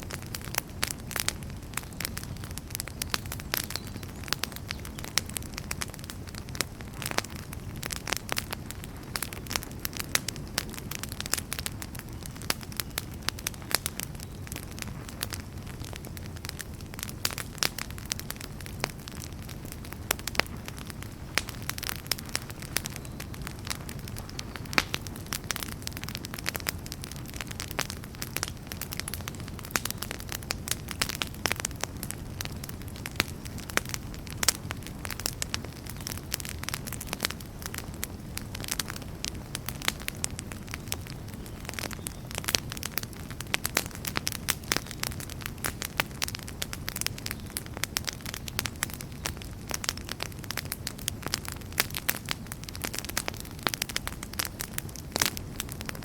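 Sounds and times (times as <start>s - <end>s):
campfire crackling and popping: 0.0s - 56.0s
low rush of flames: 0.0s - 56.0s.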